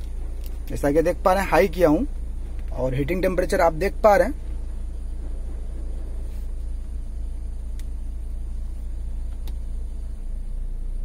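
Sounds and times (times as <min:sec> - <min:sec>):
car engine idling: 0:00.0 - 0:11.0
heater air blowing through vents: 0:00.0 - 0:11.0.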